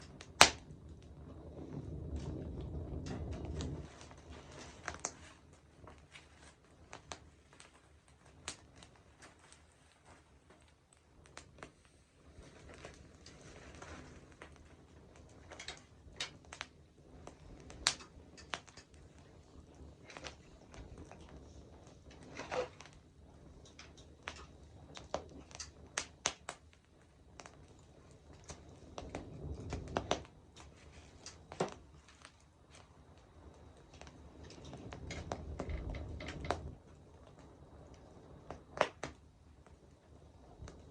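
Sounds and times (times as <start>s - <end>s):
campfire crackling and popping: 0.0s - 40.9s
hiss of flame: 0.0s - 40.9s.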